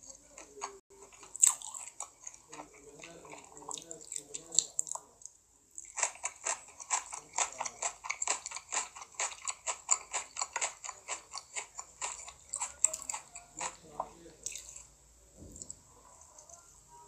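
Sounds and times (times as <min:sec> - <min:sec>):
person chewing sushi: 0:00.0 - 0:16.7.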